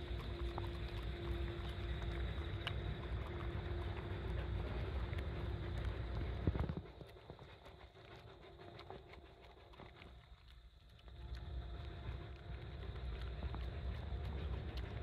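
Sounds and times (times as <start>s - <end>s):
dog chewing and snuffling: 0.0s - 15.0s
steady low rumble: 0.0s - 15.0s.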